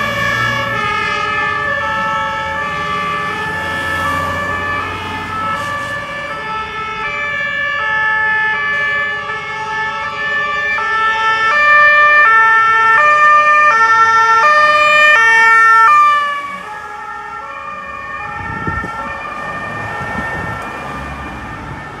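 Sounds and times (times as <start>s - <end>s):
second vehicle siren: 0.0s - 22.0s
traffic rumble: 0.0s - 22.0s
two-tone ambulance siren: 0.0s - 22.0s.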